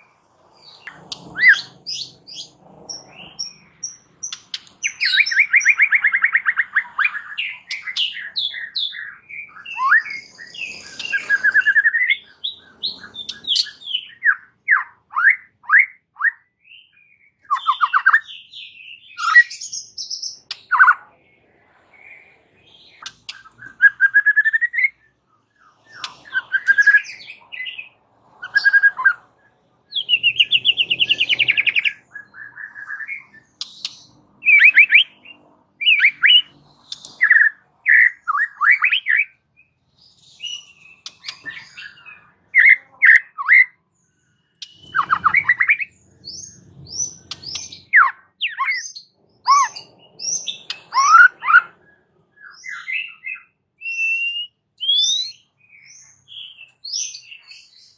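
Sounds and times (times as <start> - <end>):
songbird singing whistles and trills: 0.0 - 21.2, 21.8 - 57.9.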